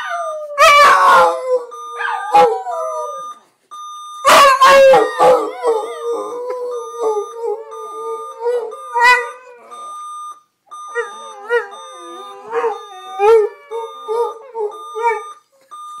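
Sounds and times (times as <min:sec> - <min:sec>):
electronic alarm tone: 0:00.8 - 0:16.0.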